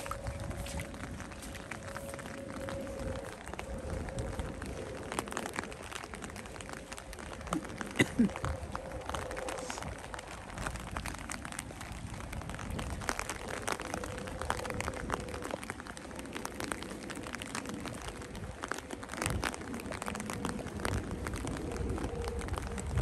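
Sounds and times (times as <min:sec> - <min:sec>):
low rumble: 0:00.0 - 0:23.0
raindrops ticking: 0:00.0 - 0:23.0.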